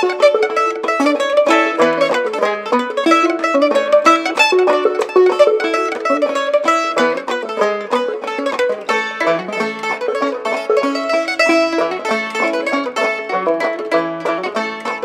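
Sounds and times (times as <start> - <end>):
banjo plucking: 0.0 - 15.0
mandolin: 0.0 - 15.0.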